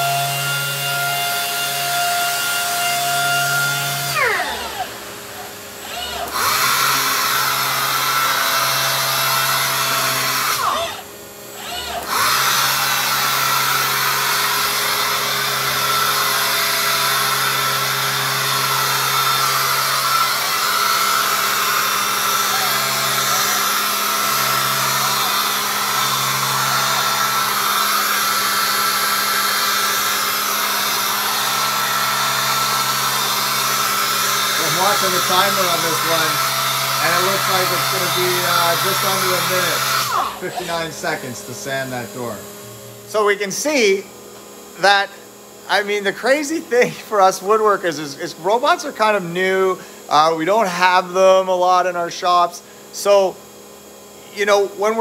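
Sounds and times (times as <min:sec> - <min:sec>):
orbital sander whirring: 0:00.0 - 0:52.0.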